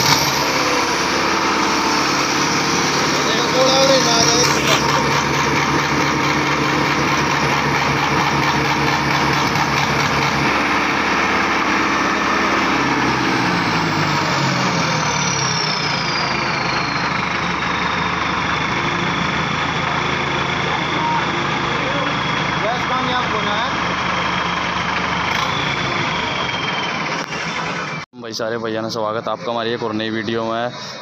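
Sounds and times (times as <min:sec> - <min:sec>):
tractor engine idling: 0:00.0 - 0:28.1
high whine gliding downward: 0:00.0 - 0:30.8.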